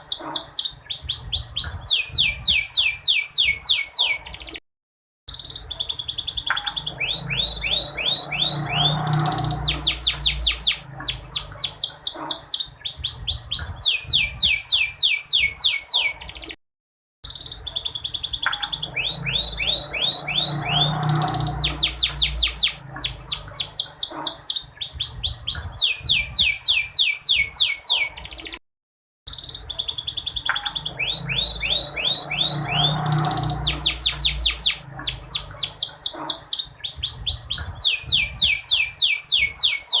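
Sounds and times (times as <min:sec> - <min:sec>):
canary song trills: 0:00.0 - 0:04.6, 0:05.3 - 0:16.6, 0:17.2 - 0:28.6, 0:29.3 - 0:40.0.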